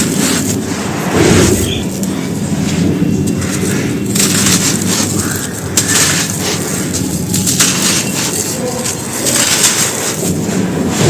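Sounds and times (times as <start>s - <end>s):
chalk crumbling and crunching: 0.0s - 11.0s.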